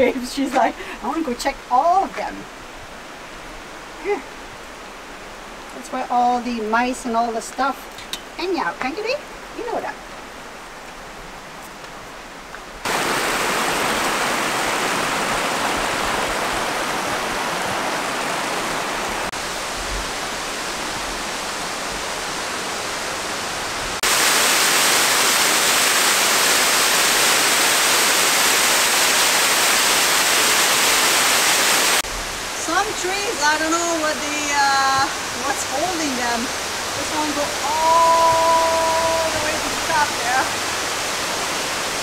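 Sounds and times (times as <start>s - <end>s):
waterfall and creek rushing: 0.0s - 42.0s.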